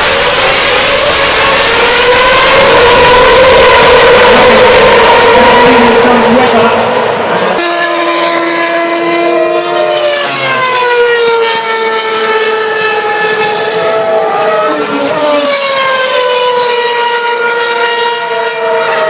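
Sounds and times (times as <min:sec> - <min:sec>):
racing car engine at high revs: 0:00.0 - 0:19.0.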